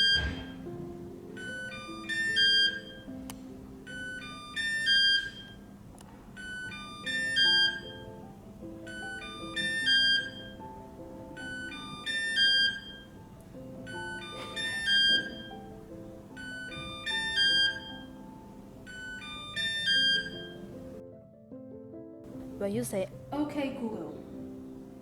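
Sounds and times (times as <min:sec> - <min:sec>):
robot vacuum beeping: 0:00.0 - 0:05.8, 0:06.4 - 0:20.9
soft background music: 0:00.0 - 0:25.0.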